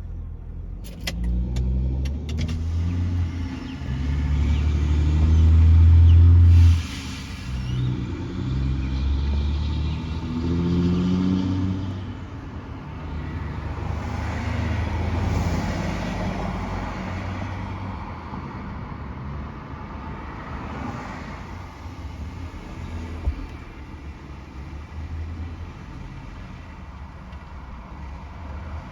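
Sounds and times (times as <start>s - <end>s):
heavy truck engine rumbling: 2.0s - 28.9s.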